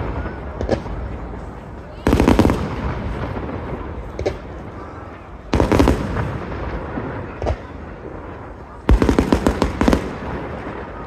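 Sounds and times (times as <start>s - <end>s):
fireworks exploding: 0.0s - 11.0s
sharp firework cracks: 2.0s - 11.0s.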